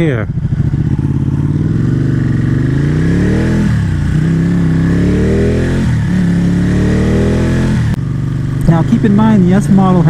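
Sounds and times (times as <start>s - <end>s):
motorcycle accelerating through gears: 0.0s - 10.0s.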